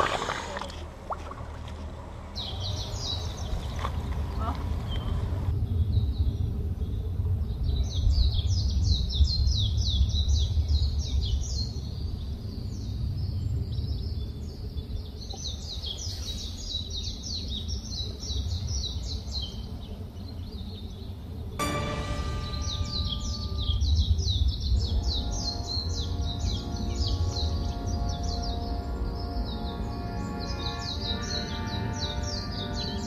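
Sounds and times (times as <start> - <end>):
birds chirping: 0.0 - 33.0
steady low rumble: 0.7 - 18.9, 21.6 - 33.0.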